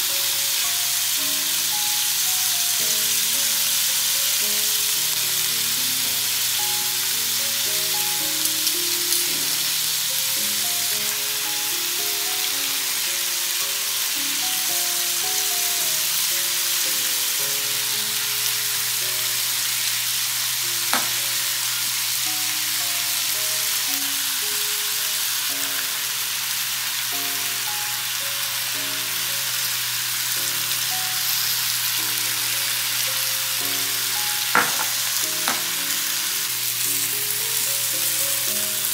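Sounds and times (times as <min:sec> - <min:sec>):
soft background music: 0:00.0 - 0:38.9
steaks and onions sizzling: 0:00.0 - 0:38.9.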